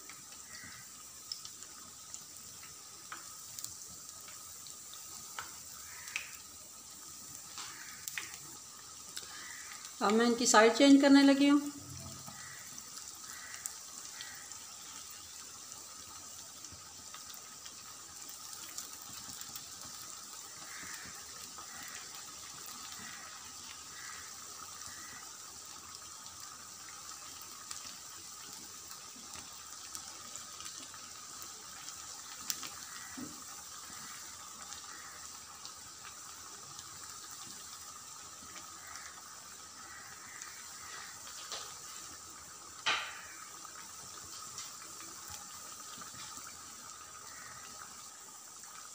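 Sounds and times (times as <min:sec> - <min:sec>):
oil sizzling in frying pan: 0:00.0 - 0:48.9.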